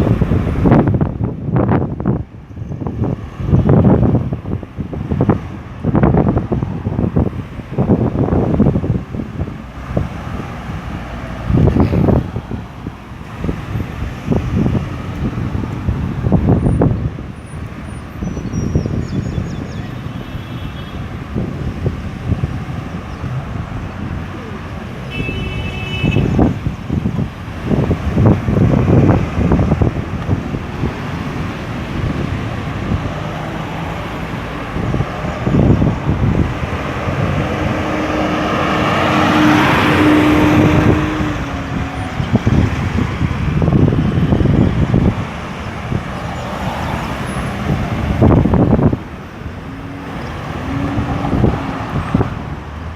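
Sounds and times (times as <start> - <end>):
car and truck engines: 0.0 - 52.9
road traffic: 0.0 - 52.9
wind buffeting microphone: 0.0 - 52.9.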